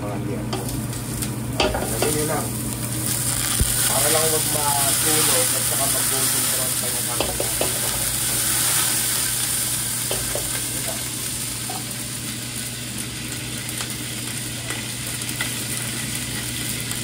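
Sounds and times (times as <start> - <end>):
kitchen equipment hum: 0.0 - 17.0
boiling water hiss: 1.2 - 17.0.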